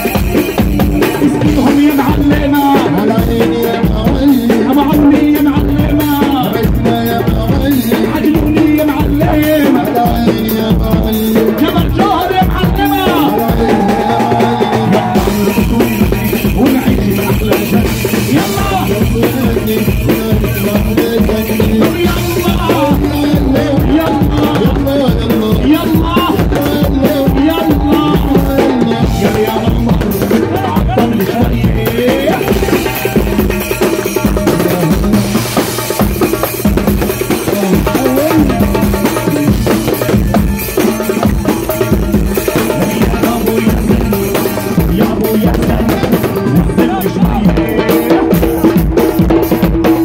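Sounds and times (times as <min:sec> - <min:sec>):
man singing into a microphone: 0:00.0 - 0:50.0
steady drum rhythm: 0:00.0 - 0:50.0.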